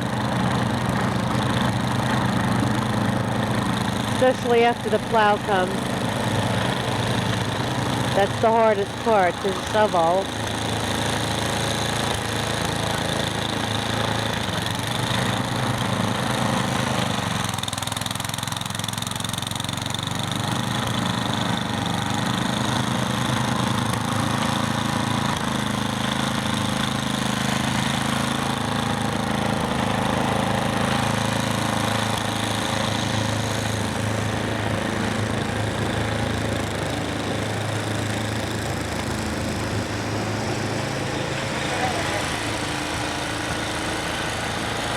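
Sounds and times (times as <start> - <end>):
snowblower engine running: 0.0 - 44.9.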